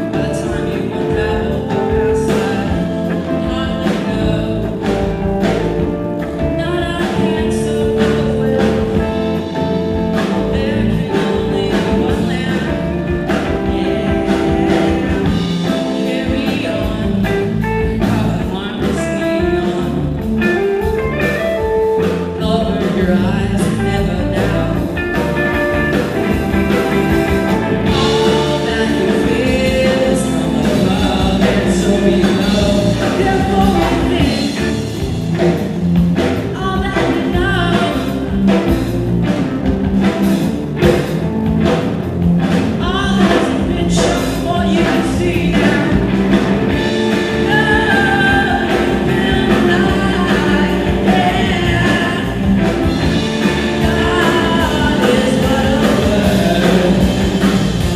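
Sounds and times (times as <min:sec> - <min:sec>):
drum kit: 0:00.0 - 0:57.9
electric guitar: 0:00.0 - 0:57.9
person singing lead vocal: 0:00.0 - 0:57.9.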